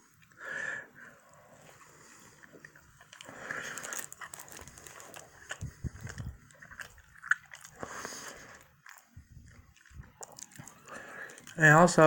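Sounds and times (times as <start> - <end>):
chewing and biting food: 1.2 - 12.0.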